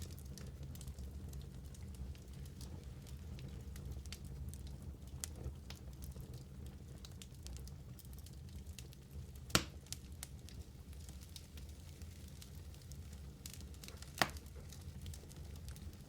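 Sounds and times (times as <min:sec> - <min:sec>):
fire low rumble: 0:00.0 - 0:16.0
fire popping: 0:00.0 - 0:16.0
wood fire crackling: 0:00.0 - 0:16.0.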